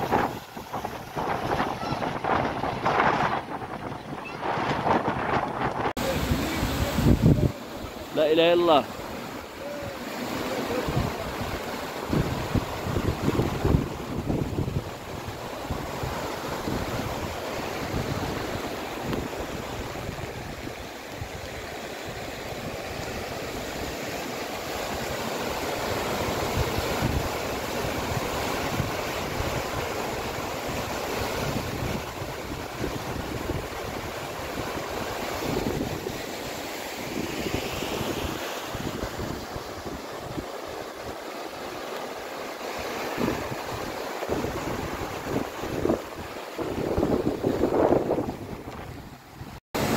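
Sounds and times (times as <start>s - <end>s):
wind buffeting microphone: 0.0s - 7.9s, 9.8s - 21.6s, 22.2s - 36.4s, 42.8s - 49.9s
river water rushing: 0.0s - 49.9s.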